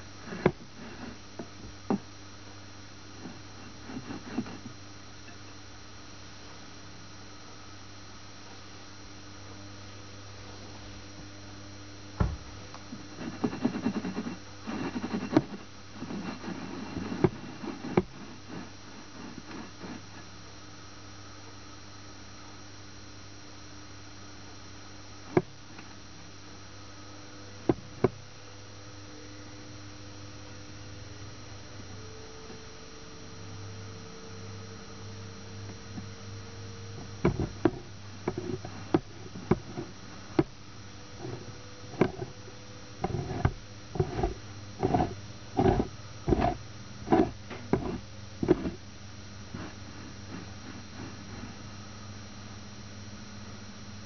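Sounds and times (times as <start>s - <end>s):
low electrical hum: 0.0s - 54.0s.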